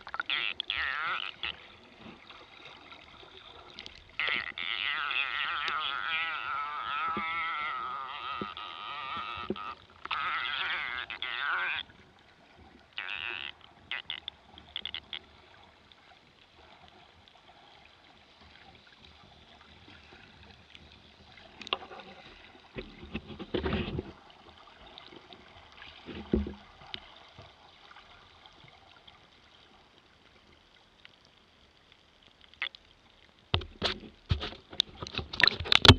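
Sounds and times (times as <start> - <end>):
bursts of water movement: 0.0 - 30.4.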